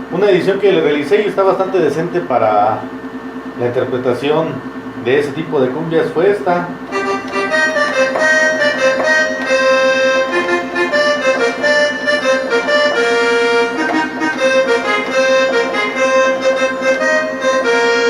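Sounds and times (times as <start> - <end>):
synthesizer accordion-like melody: 0.2 - 18.0.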